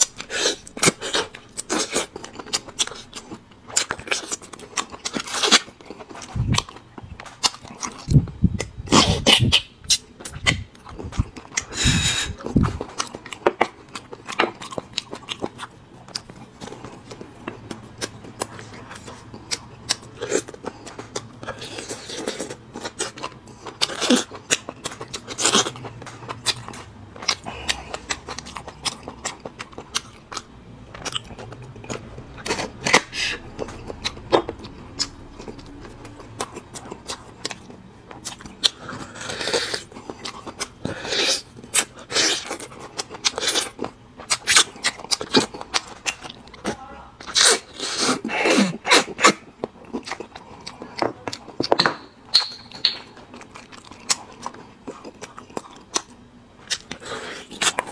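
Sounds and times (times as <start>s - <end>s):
chewing: 0.0s - 57.9s.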